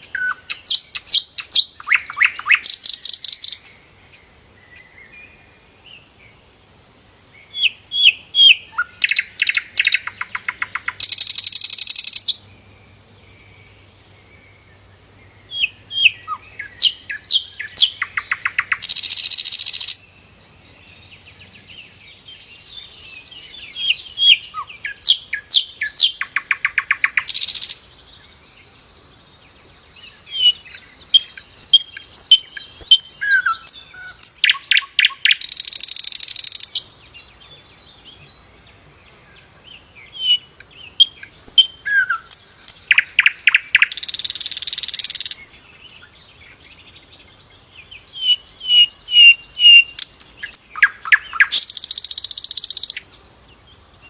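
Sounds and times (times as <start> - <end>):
flycatcher singing: 0.0 - 5.2, 7.4 - 12.5, 15.4 - 38.4, 39.8 - 53.7.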